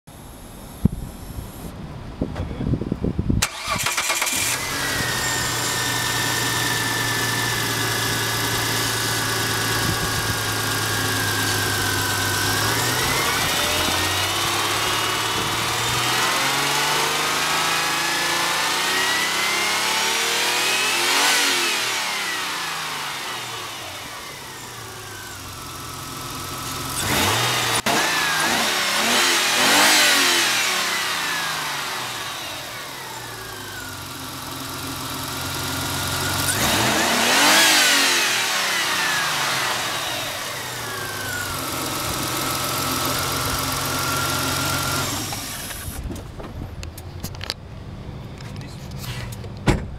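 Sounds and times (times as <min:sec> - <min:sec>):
car engine idling and revving: 0:03.4 - 0:49.9.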